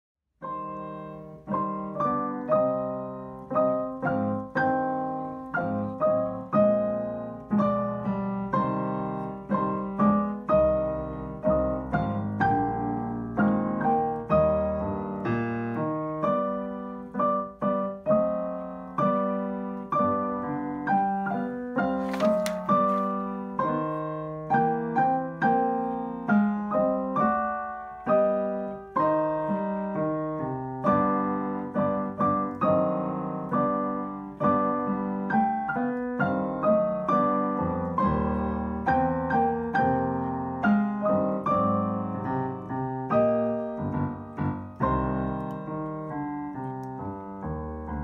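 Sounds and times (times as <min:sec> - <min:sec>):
piano notes and chords: 0:00.4 - 0:48.0.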